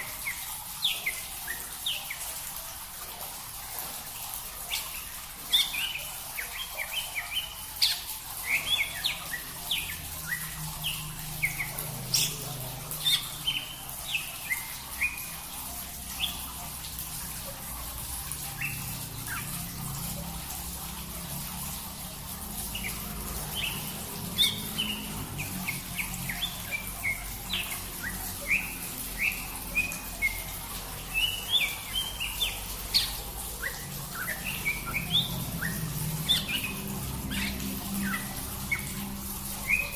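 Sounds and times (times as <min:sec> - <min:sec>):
low steady hum: 0:00.0 - 0:39.9
songbirds chirping: 0:00.0 - 0:39.9.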